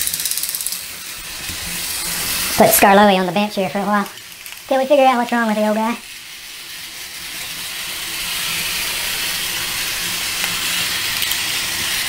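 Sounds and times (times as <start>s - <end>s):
toy trains whirring and rattling: 0.0s - 12.0s.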